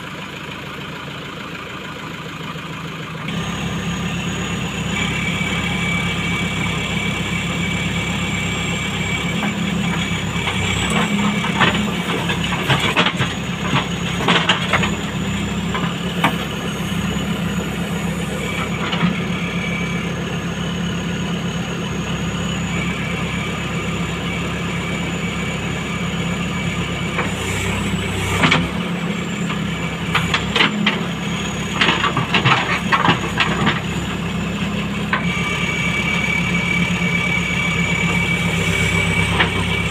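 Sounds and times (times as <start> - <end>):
diesel engine with high whine: 0.0 - 39.9.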